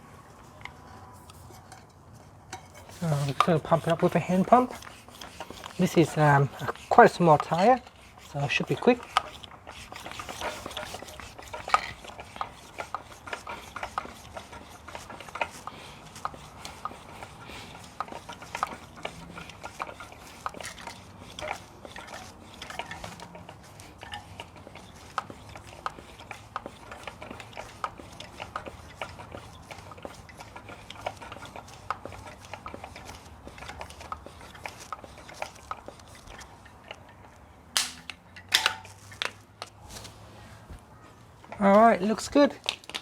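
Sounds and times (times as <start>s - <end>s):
bicycle pump strokes clicking: 0.6s - 40.1s, 41.4s - 43.0s.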